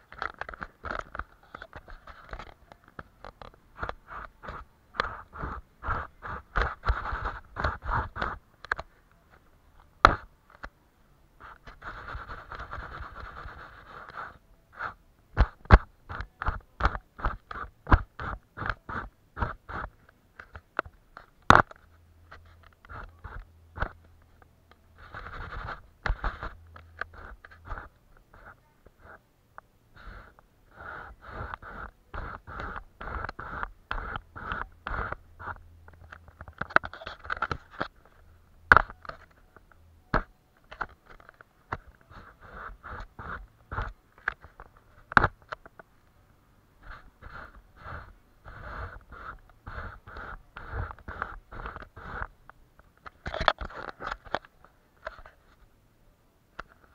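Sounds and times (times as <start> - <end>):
paint strokes scraping paper: 0.2 - 8.8, 11.4 - 29.2, 29.9 - 45.8, 46.8 - 52.4.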